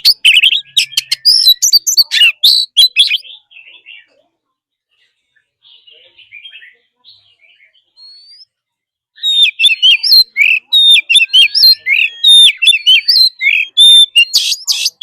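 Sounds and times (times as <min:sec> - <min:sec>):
bird singing: 0:00.0 - 0:04.3, 0:04.9 - 0:15.0.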